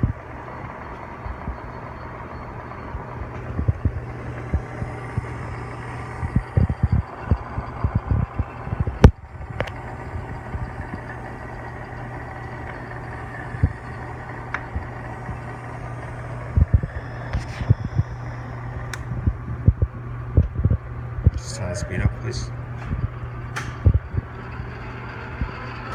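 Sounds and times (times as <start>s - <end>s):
lathe humming: 0.0s - 25.9s.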